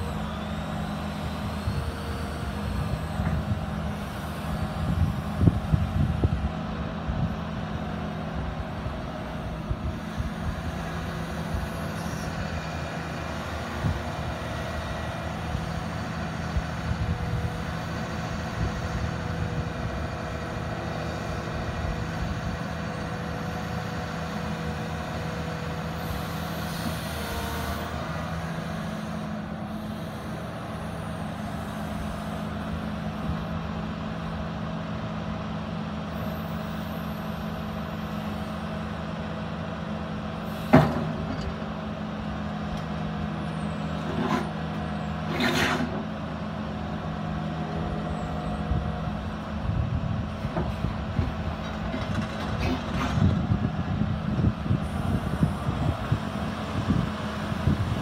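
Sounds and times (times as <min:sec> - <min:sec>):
excavator diesel engine running: 0:00.0 - 0:58.0
hydraulics working: 0:00.0 - 0:58.0.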